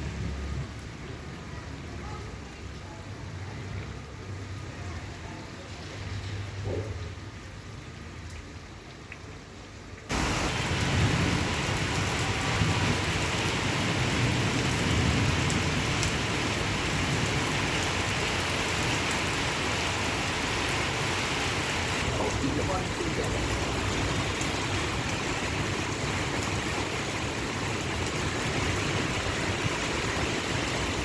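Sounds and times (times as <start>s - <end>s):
heavy rain pouring: 0.0s - 8.8s, 10.0s - 31.0s.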